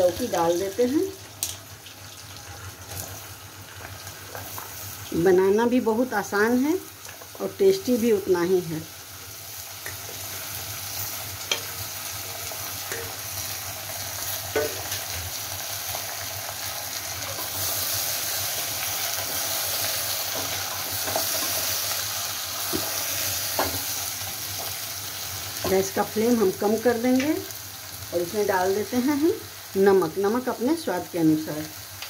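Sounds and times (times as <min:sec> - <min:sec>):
vegetables sizzling in oil: 0:00.0 - 0:32.0.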